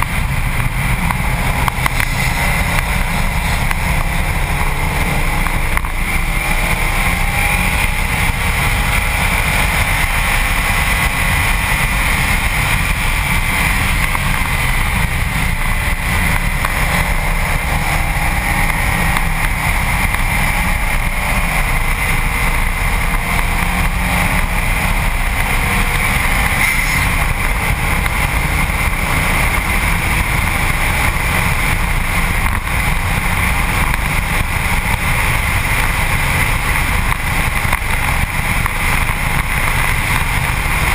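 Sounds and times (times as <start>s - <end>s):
tyre and road roar: 0.0s - 40.9s.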